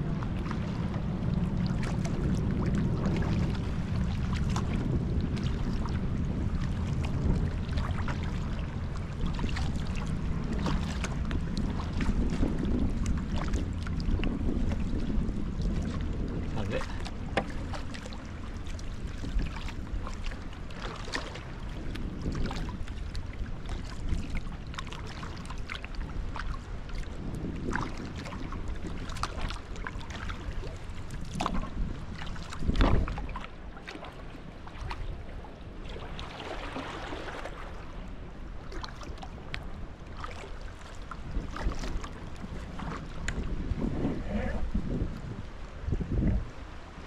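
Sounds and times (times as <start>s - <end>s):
low rumble: 0.0s - 47.0s
paddle splashing in water: 0.0s - 47.0s.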